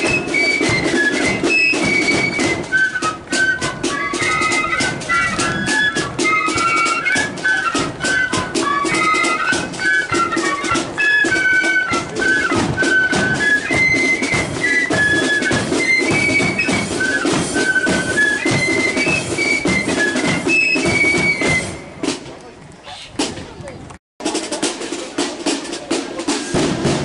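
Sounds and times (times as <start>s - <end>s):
flutes playing a melody: 0.0s - 22.4s
snare and bass drums: 0.0s - 27.0s.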